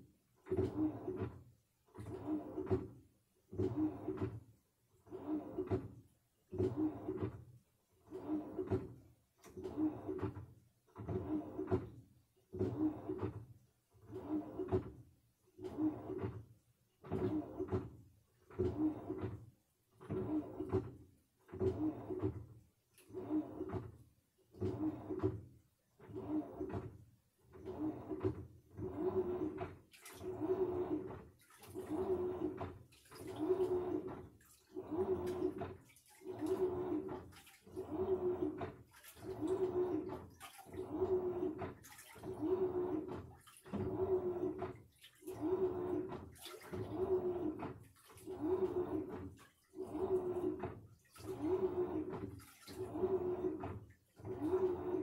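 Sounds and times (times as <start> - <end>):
washing machine sloshing: 0.0 - 55.0.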